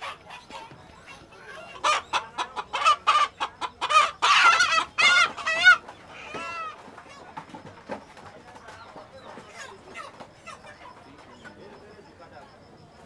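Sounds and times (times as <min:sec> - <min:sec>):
chickens squawking and clucking: 0:00.0 - 0:11.7.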